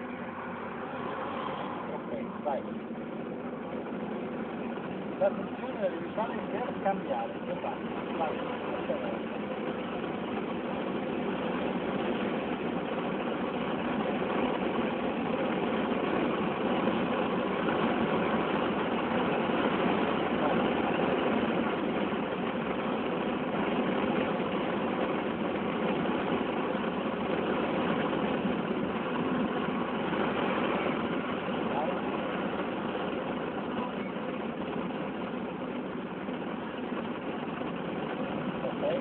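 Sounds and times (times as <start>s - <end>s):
car engine drone: 0.0s - 39.0s
road noise: 0.0s - 39.0s.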